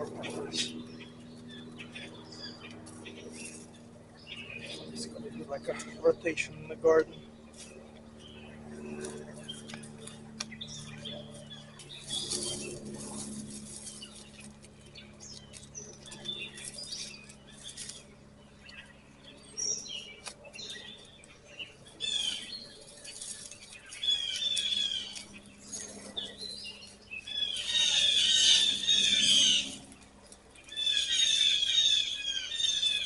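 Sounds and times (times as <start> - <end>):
faint low hum: 0.0 - 33.0
songbirds chirping: 0.0 - 33.0.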